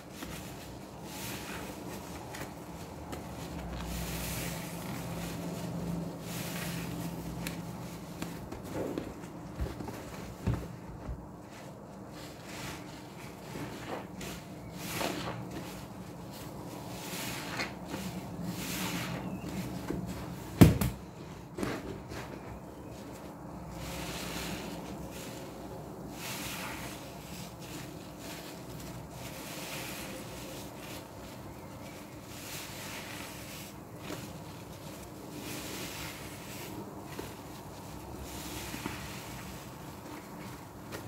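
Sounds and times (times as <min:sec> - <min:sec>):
sponges squelching in suds: 0:00.0 - 0:10.2, 0:11.3 - 0:20.5, 0:22.6 - 0:41.0.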